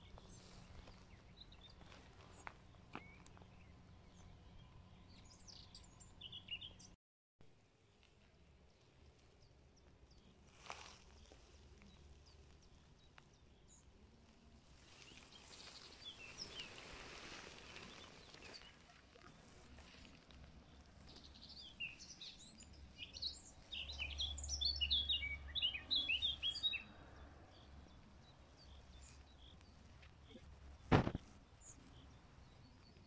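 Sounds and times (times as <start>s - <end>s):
small songbirds chirping: 0.0s - 7.0s, 7.8s - 33.0s.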